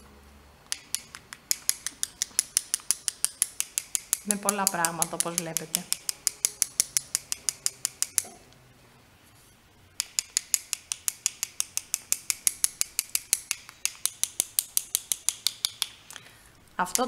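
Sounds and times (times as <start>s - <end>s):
paintbrushes tapping clicks: 0.6s - 8.4s, 10.0s - 16.2s.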